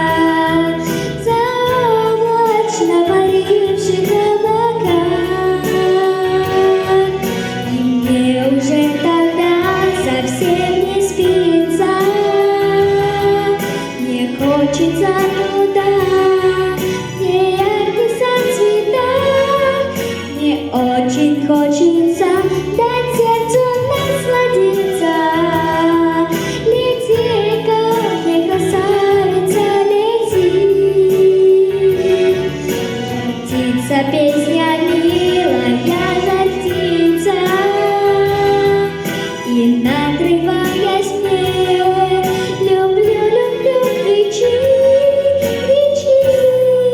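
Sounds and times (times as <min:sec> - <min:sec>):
musical backing track: 0:00.0 - 0:46.9
woman singing with vibrato: 0:00.0 - 0:46.9.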